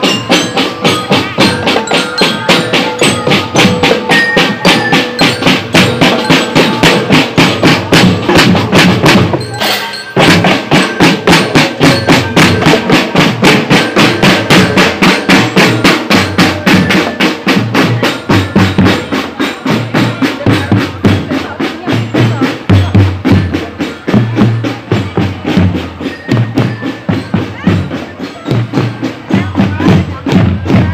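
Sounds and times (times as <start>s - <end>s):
marching drum band playing: 0.0s - 30.9s.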